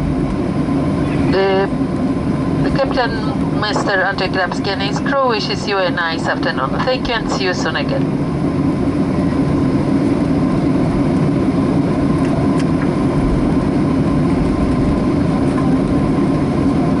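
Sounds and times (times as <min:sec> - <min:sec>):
airplane cabin hum: 0:00.0 - 0:17.0
faint steady whine: 0:00.0 - 0:17.0.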